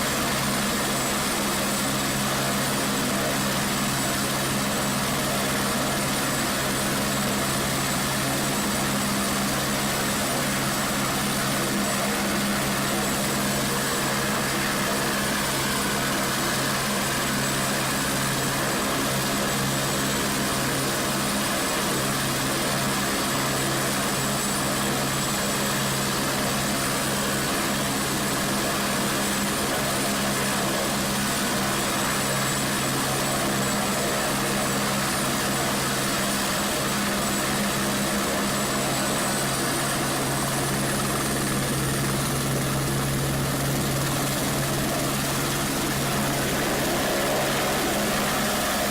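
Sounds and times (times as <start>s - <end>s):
helicopter rotor and engine: 0.0s - 48.9s.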